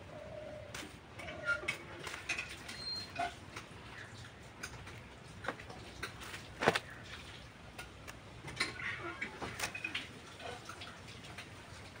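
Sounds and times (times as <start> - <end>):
hen pecking dirt and leaves: 0.0 - 12.0.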